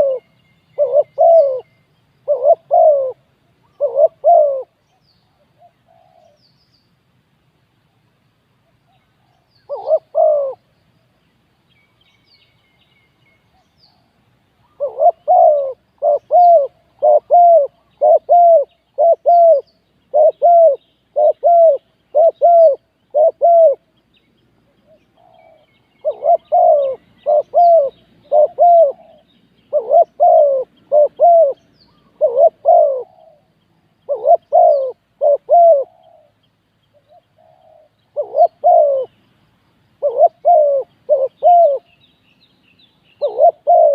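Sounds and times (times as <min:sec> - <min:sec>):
dove cooing: 0:00.0 - 0:06.4, 0:08.9 - 0:10.7, 0:13.9 - 0:23.9, 0:24.8 - 0:39.2, 0:40.0 - 0:42.0, 0:43.2 - 0:43.9.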